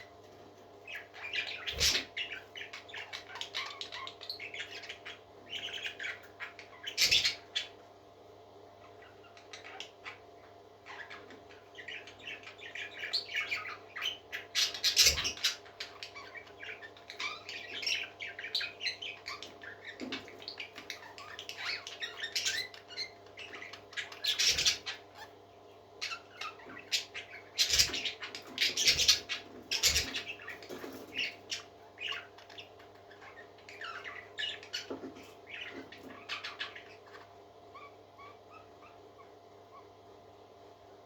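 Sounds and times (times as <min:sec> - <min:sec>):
parrot chicks peeping: 0:00.0 - 0:41.0.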